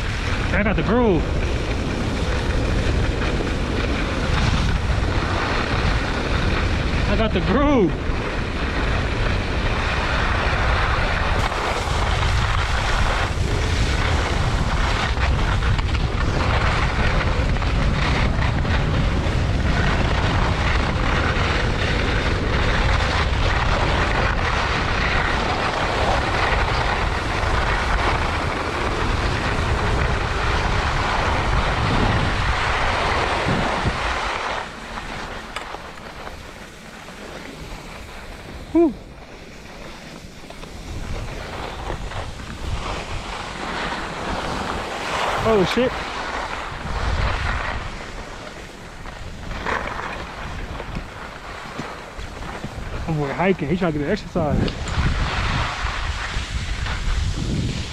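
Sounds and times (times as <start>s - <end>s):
skis hissing over snow: 0.0s - 57.9s
wind buffeting microphone: 0.0s - 57.9s.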